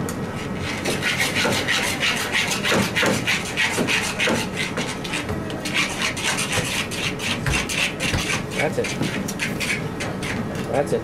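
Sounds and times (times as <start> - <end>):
utensil scraping frying pan: 0.6 - 10.4.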